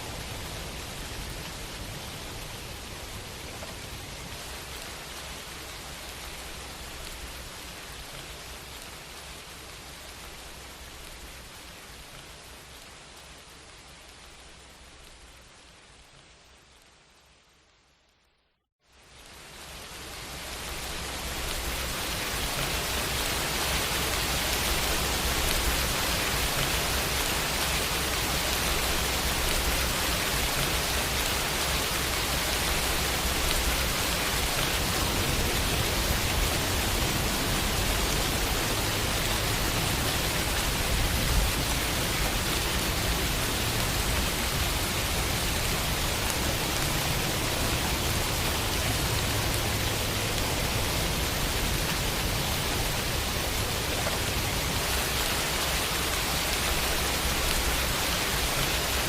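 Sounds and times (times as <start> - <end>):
rain pattering on a window: 0.0 - 17.6, 18.9 - 59.0.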